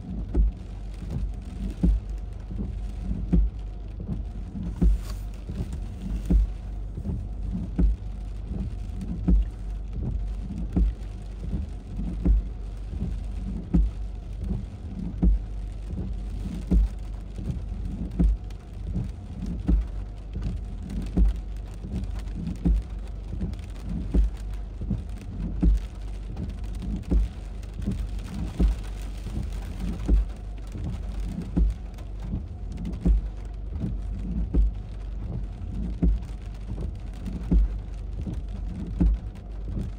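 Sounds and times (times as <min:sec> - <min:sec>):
heavy rain falling: 0:00.0 - 0:39.9
short low thumps: 0:00.0 - 0:39.9.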